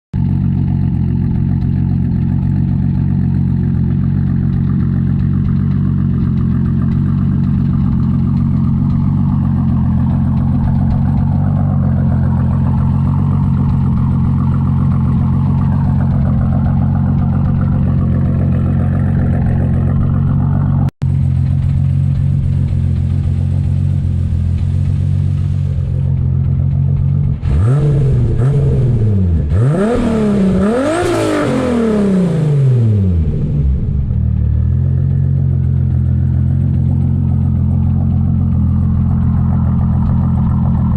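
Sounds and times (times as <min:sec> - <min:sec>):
car engine idling and revving: 0:00.2 - 0:40.9.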